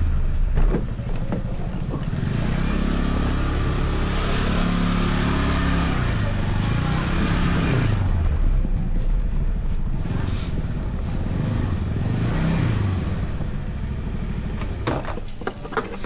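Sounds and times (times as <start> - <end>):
scooter engine revving: 0.1 - 16.0.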